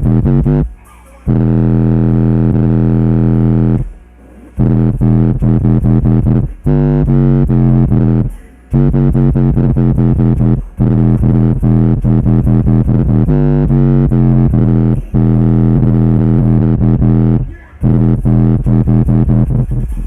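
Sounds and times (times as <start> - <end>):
bass-heavy dubstep music: 0.0 - 0.7, 1.3 - 3.9, 4.6 - 20.0.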